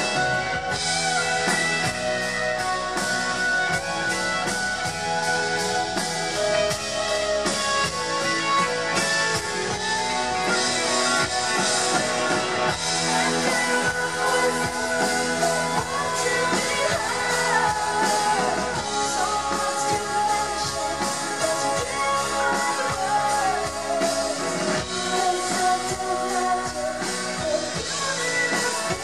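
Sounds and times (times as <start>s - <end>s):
drums: 0.0s - 29.0s
electric guitar: 0.0s - 29.0s
rock band playing a ballad: 0.0s - 29.0s
woman singing: 0.0s - 29.0s.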